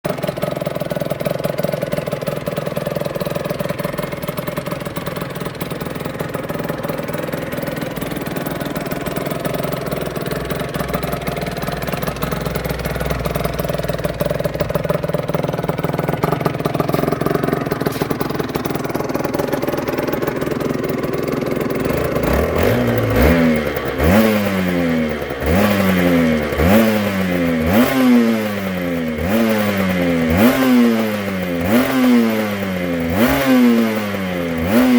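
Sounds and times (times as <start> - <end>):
motorcycle engine idling: 0.0 - 34.9
motorcycle engine revving: 0.1 - 34.9.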